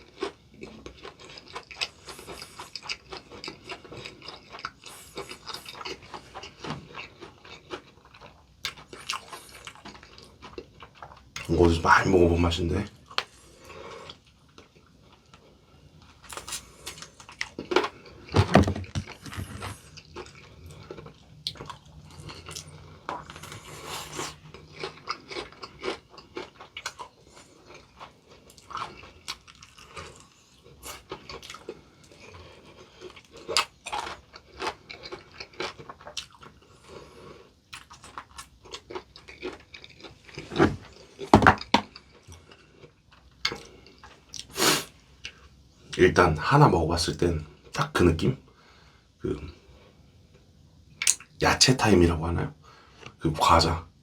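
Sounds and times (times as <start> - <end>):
chewing and crunching fried chicken: 0.0 - 53.8.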